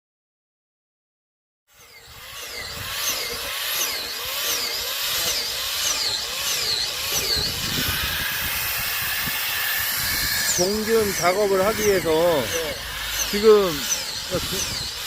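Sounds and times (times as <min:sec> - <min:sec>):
power tool whining on wood: 0:01.7 - 0:15.0.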